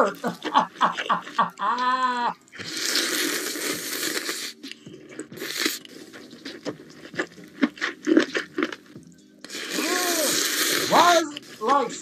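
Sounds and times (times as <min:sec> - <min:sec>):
crunchy chewing: 0:00.0 - 0:12.0
slurping: 0:00.0 - 0:12.0.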